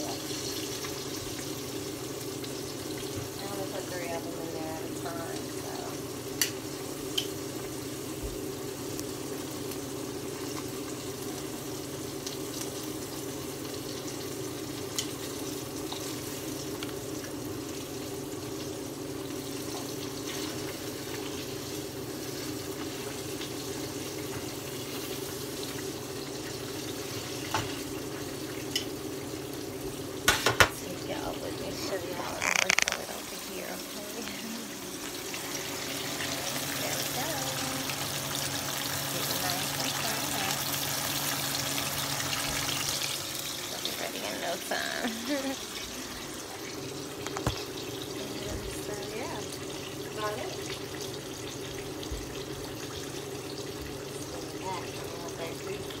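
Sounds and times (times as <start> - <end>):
food sizzling in a skillet: 0.0 - 56.0.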